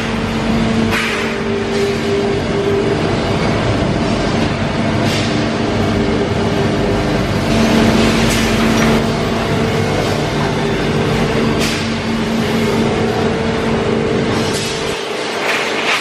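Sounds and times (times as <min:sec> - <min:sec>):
factory machine noise: 0:00.0 - 0:16.0
two-tone electrical hum: 0:00.0 - 0:16.0.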